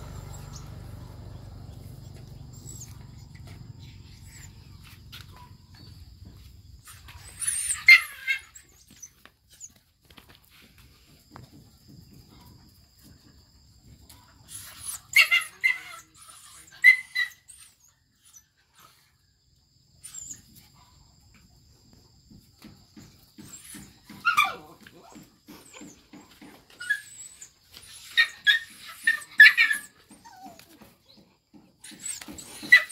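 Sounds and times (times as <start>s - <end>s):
animals yelping and squealing: 0.0s - 9.8s, 14.0s - 19.2s, 20.0s - 21.0s, 22.6s - 32.9s.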